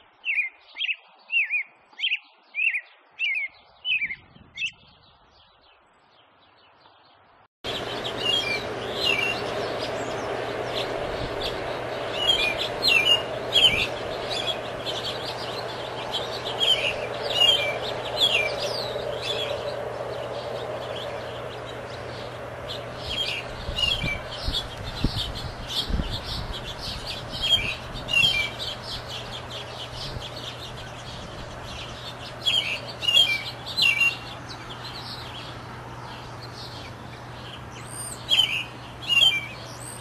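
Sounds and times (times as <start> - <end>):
faint steady hum: 7.7 - 40.0
thrush singing: 7.7 - 40.0.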